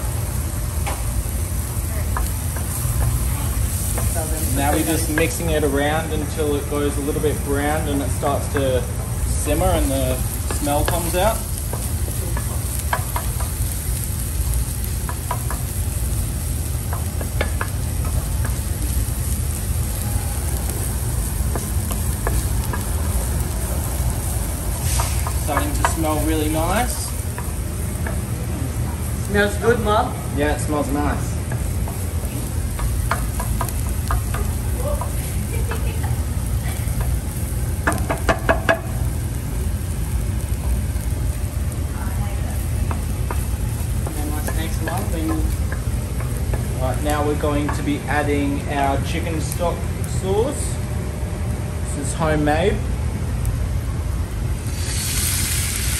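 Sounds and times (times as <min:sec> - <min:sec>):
food sizzling in butter: 0:00.0 - 0:50.2, 0:54.4 - 0:55.9.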